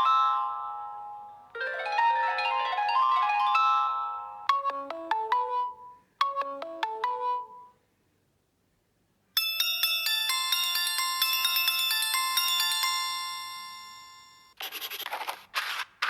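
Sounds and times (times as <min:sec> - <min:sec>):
phone ringtone melody: 0:00.0 - 0:07.8, 0:09.4 - 0:14.6.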